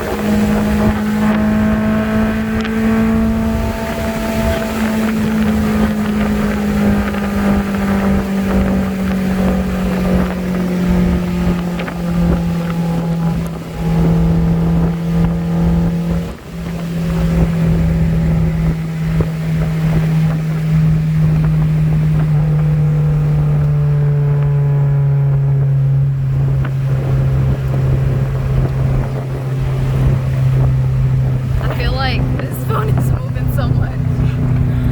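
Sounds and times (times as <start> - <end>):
car engine drone: 0.0 - 34.9
wind buffeting microphone: 0.0 - 34.9.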